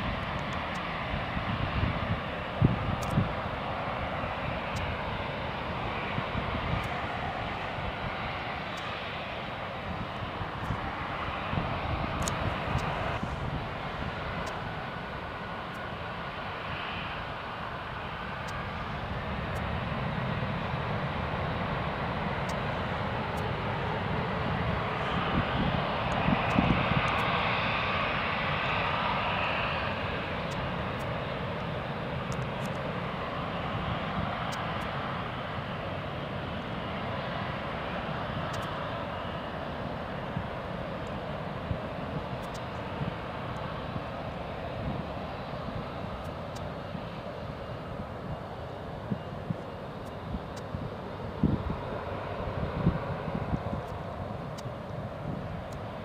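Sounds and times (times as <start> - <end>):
jet aircraft taking off: 0.0 - 56.0.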